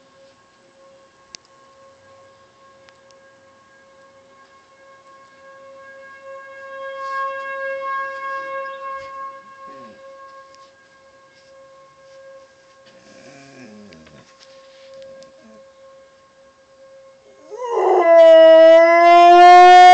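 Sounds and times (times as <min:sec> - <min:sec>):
tornado warning siren steady pitch: 0:00.0 - 0:19.9.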